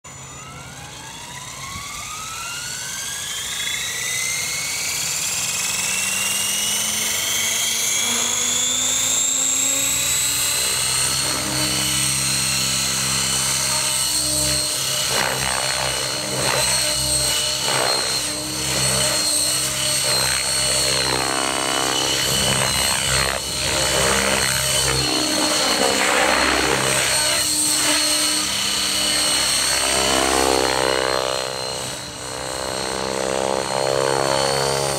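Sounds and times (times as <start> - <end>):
helicopter motor whine: 0.1 - 34.9.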